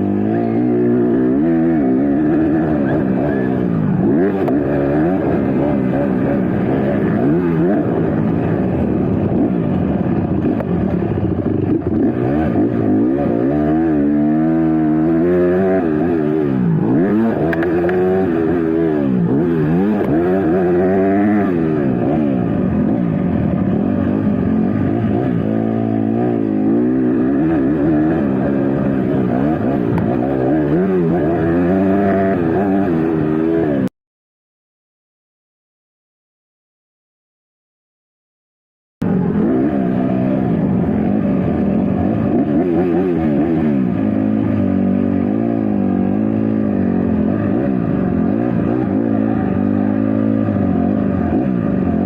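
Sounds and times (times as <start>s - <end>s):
dirt bike engines revving: 0.0s - 33.9s, 39.0s - 52.0s.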